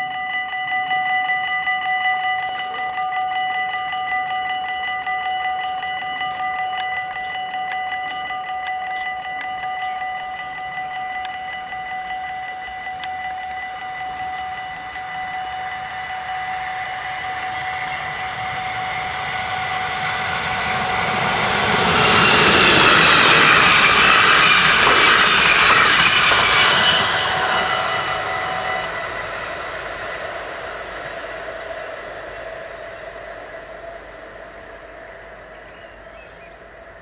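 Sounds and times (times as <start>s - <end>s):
level crossing bells ringing: 0.0s - 35.7s
train rushing past: 2.8s - 37.0s.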